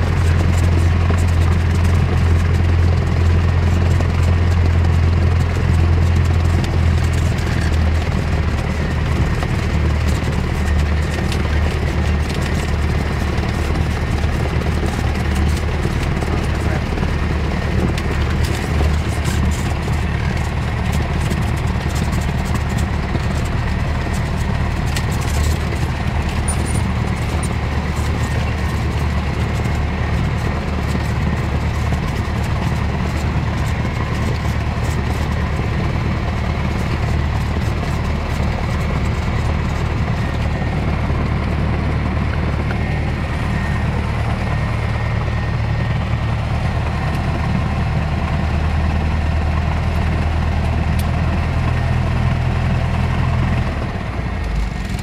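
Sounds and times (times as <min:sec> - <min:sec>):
light rattles: 0:00.0 - 0:45.9
propeller engine droning: 0:00.0 - 0:55.0.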